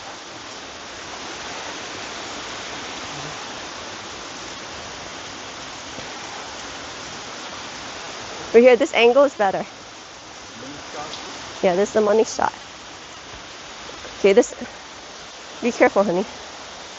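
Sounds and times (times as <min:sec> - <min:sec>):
rain falling on foliage: 0:00.0 - 0:16.9.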